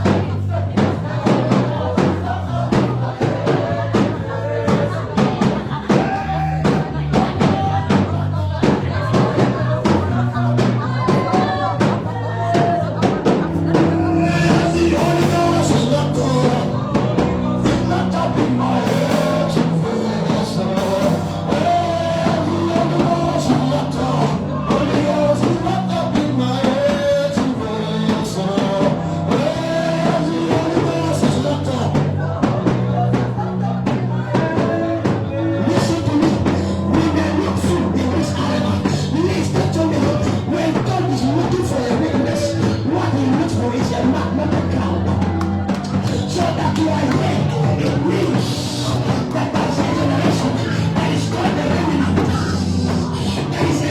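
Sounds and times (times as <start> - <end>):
bass line: 0.0 - 53.9
drum kit: 0.0 - 53.9
person singing: 0.0 - 53.9.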